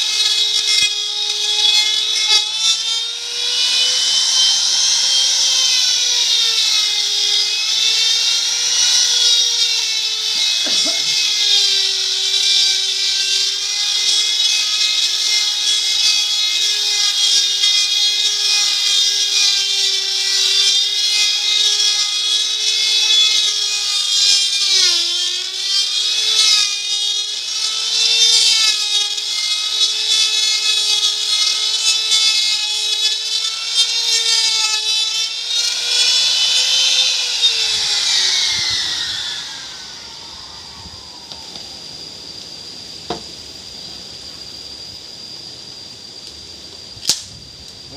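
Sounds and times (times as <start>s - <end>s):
wood router whining: 0.0s - 46.9s.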